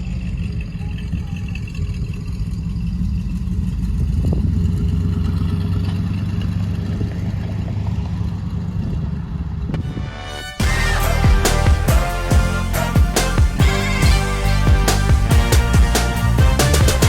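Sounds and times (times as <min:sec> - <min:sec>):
car engine idling: 0:00.0 - 0:09.7, 0:10.6 - 0:17.0.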